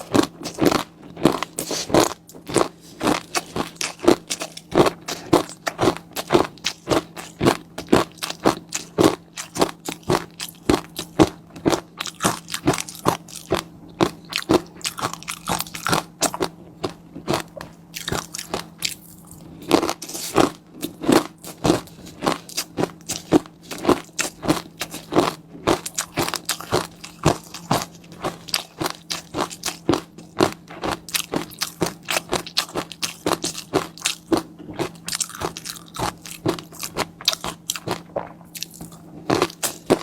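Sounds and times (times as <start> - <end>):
crunchy food chewing: 0.0 - 40.0
faint low hum: 0.0 - 40.0.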